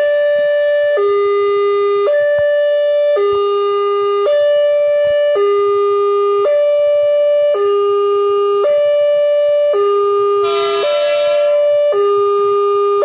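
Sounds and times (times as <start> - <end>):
two-tone level crossing alarm: 0.0 - 13.0.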